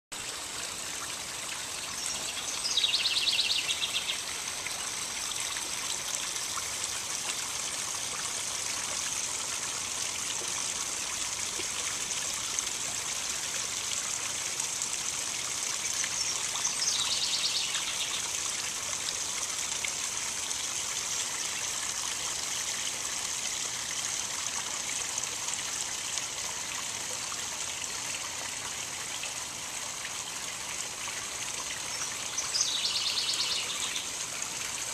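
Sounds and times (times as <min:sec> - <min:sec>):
water trickling over rocks: 0:00.2 - 0:34.9.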